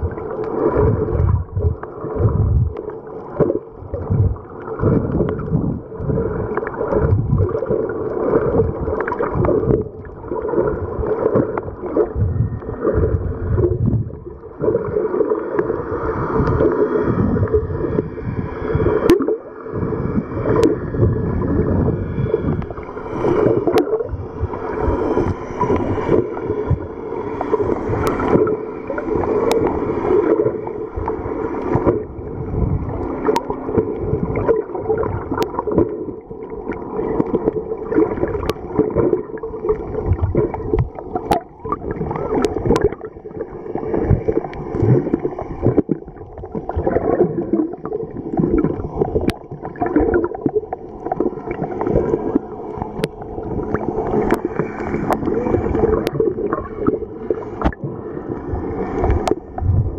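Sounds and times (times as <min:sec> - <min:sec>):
underwater gurgling and sloshing: 0:00.0 - 0:59.9.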